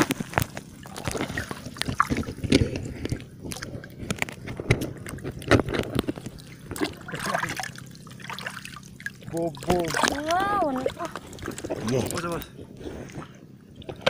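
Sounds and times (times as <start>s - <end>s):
shallow water sloshing: 0.0s - 14.0s.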